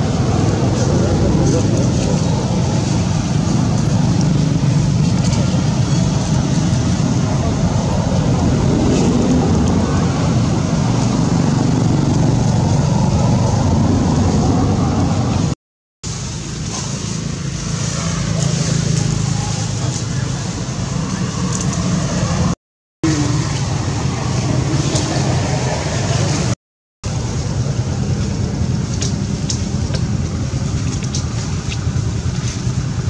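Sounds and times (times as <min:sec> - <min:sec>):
low rumbling noise: 0:00.0 - 0:33.0.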